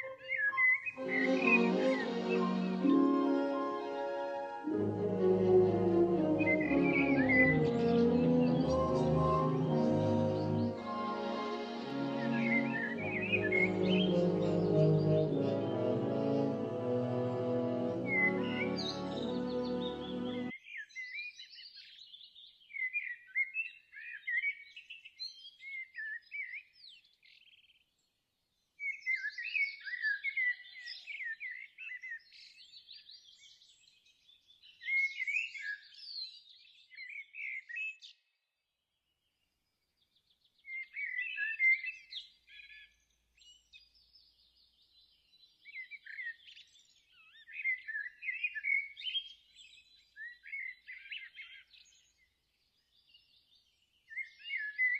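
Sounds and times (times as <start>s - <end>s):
songbirds singing: 0.0s - 4.5s, 5.5s - 54.9s.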